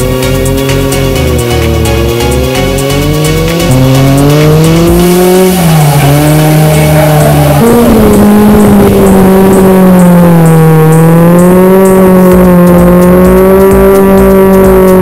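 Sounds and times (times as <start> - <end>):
car engine revving high: 0.0 - 15.0.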